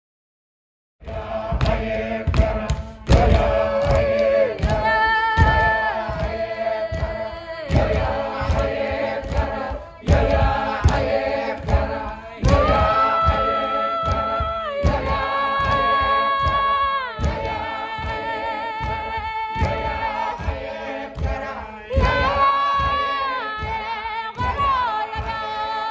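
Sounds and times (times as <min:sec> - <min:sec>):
choir singing in harmony: 0:01.0 - 0:25.9.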